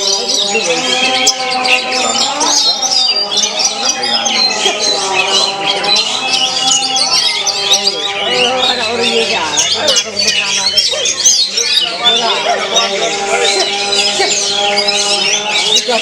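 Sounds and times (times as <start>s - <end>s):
birds singing chirps and trills: 0.0s - 16.0s
lower held bird voices: 0.0s - 16.0s.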